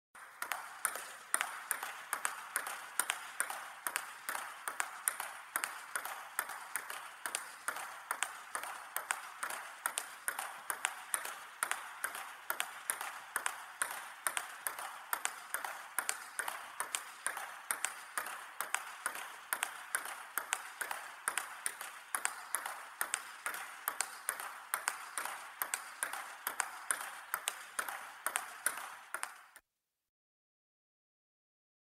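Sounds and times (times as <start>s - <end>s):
ping-pong ball hits: 0.2s - 29.6s.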